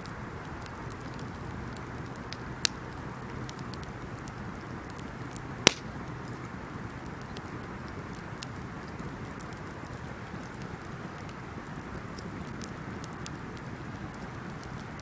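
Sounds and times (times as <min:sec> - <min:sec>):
bonfire hissing and crackling: 0:00.0 - 0:15.0
sharp fire pops: 0:00.4 - 0:15.0.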